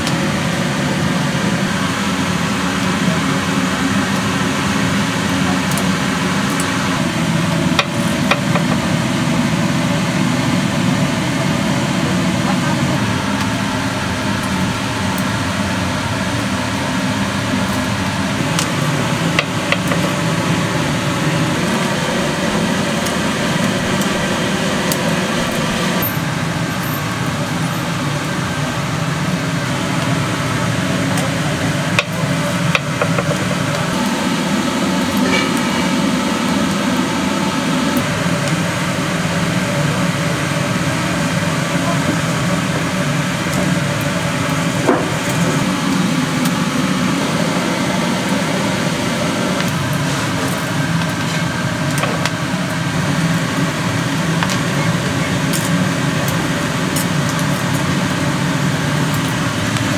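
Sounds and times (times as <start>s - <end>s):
mechanical running noise: 0.0s - 59.9s.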